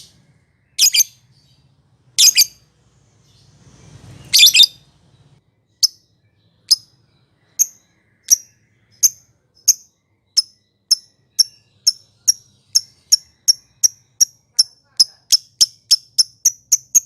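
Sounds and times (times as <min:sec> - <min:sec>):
lovebird chirping: 0:00.0 - 0:17.0.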